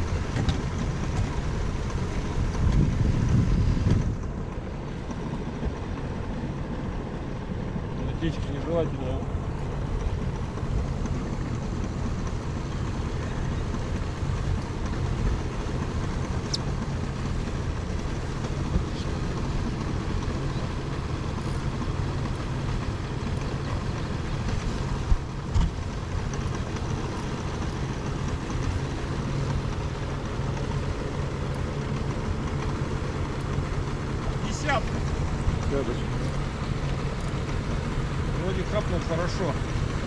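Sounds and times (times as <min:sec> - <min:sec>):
outboard motor idling: 0:00.0 - 0:40.0.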